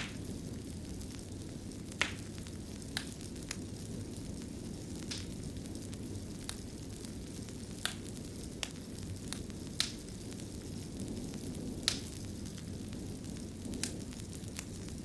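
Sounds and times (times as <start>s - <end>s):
low rumble of flames: 0.0s - 15.0s
wood fire crackles and pops: 0.0s - 15.0s.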